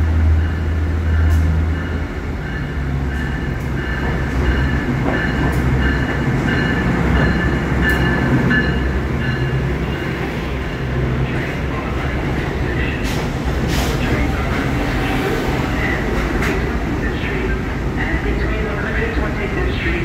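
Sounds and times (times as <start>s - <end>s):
locomotive engine rumbling: 0.0s - 20.0s.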